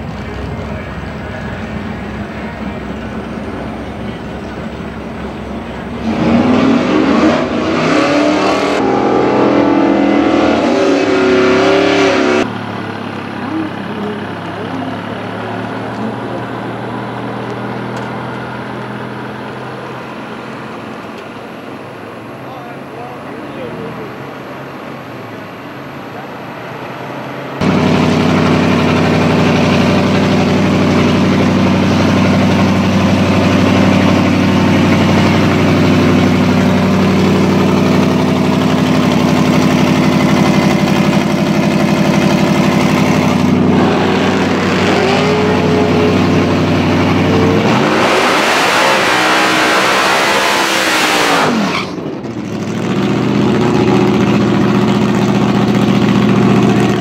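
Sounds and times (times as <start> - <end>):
car engine revving: 0.0 - 21.9, 23.0 - 57.0.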